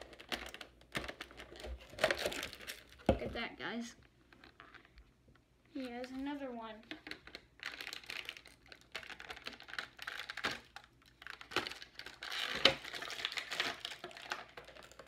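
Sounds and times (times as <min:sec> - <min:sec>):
plastic packaging crinkling: 0:00.0 - 0:03.2, 0:05.8 - 0:15.0.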